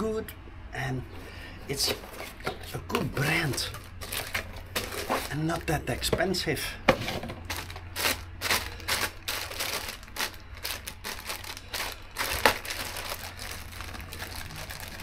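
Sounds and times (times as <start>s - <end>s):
plastic packaging crinkling: 1.6s - 6.1s, 7.4s - 15.0s.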